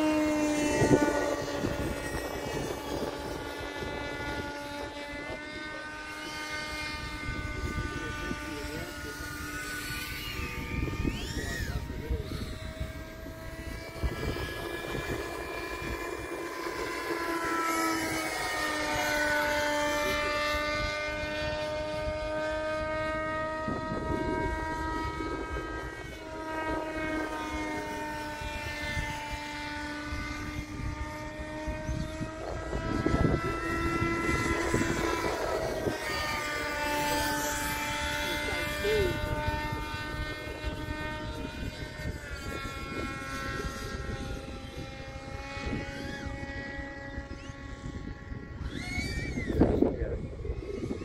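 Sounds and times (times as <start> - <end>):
electric propeller drone: 0.0 - 51.0
wind on microphone: 0.0 - 51.0.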